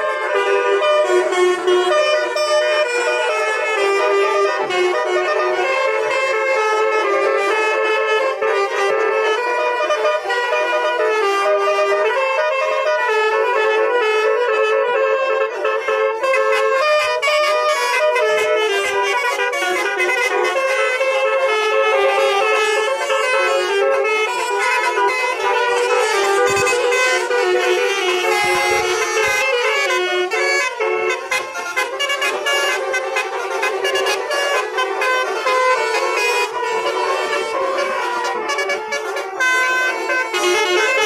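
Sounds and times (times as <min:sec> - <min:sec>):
musical air horns playing melodies: 0:00.0 - 0:41.0.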